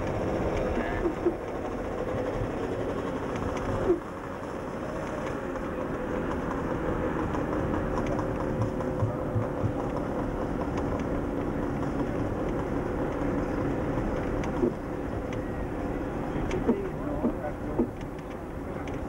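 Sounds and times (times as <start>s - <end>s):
car engine drone: 0.0s - 19.0s
road noise: 0.0s - 19.0s.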